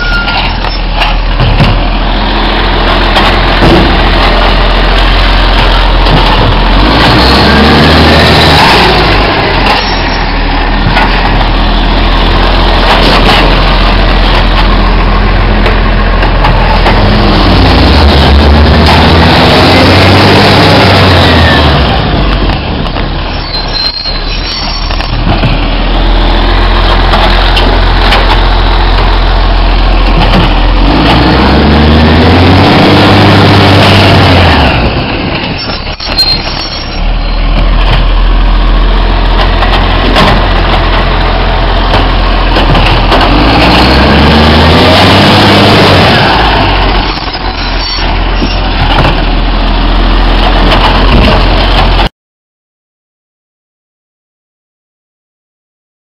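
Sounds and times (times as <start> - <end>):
garbage truck diesel engine revving: 0.9 - 23.3, 25.1 - 35.5, 37.0 - 52.1.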